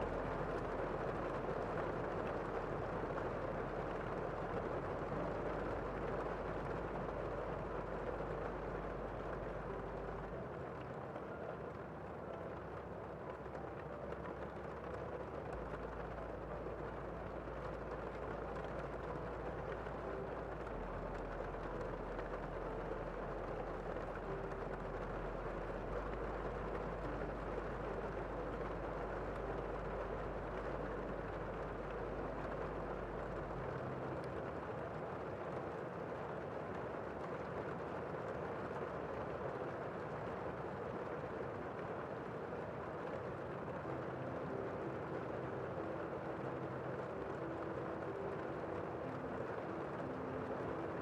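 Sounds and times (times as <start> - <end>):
rain falling outside window: 0.0 - 51.0.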